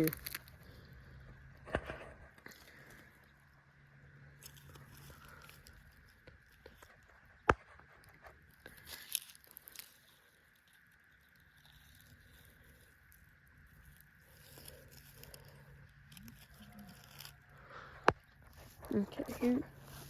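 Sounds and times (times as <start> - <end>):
crackling and rustling: 0.0 - 20.0.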